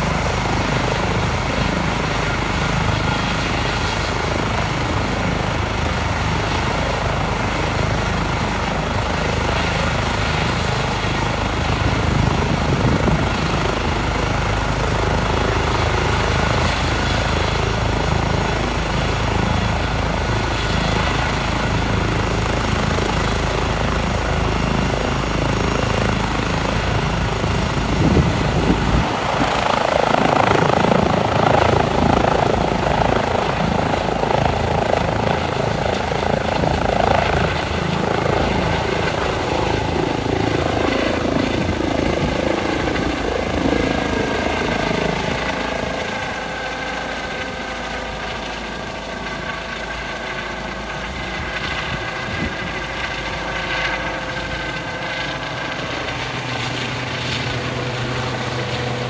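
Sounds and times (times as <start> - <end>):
helicopter rotor and turbine noise: 0.0 - 59.0.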